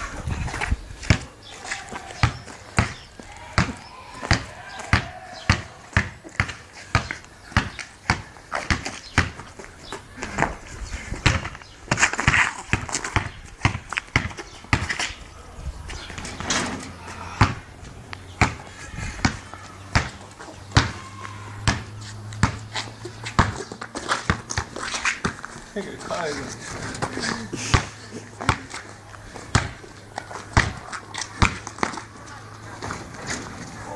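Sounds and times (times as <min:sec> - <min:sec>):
basketball bouncing on pavement: 0:00.4 - 0:10.6, 0:11.2 - 0:15.2, 0:17.1 - 0:33.7.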